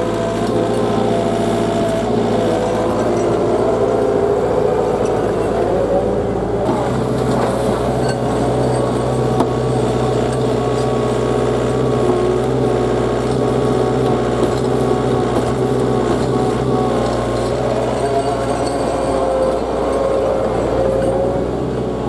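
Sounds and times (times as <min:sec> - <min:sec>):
diesel engine running steadily: 0:00.0 - 0:22.0.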